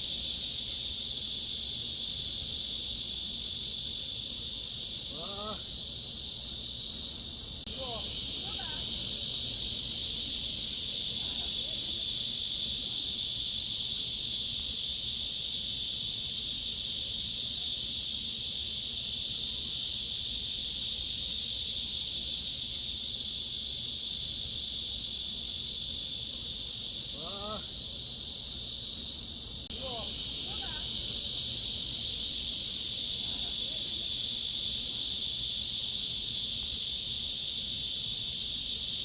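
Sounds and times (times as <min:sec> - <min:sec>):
cicadas droning: 0:00.0 - 0:39.0.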